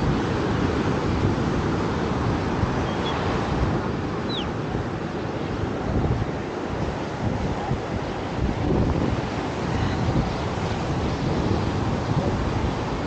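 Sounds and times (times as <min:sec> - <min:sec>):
surf washing up a beach: 0:00.0 - 0:13.0
wind buffeting microphone: 0:00.0 - 0:13.0.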